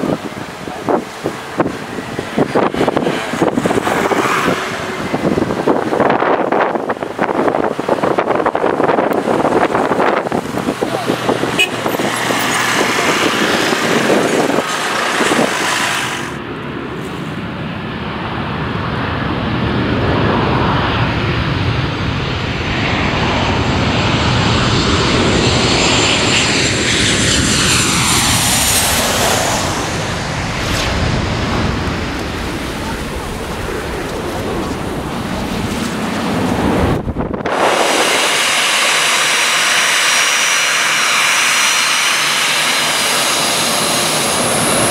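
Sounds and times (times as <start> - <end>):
jet airliner engines passing: 0.0 - 44.9.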